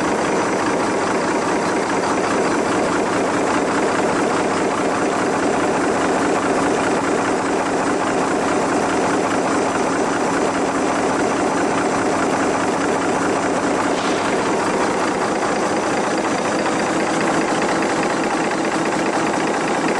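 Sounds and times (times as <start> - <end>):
engine rig mechanical clatter: 0.0 - 19.9.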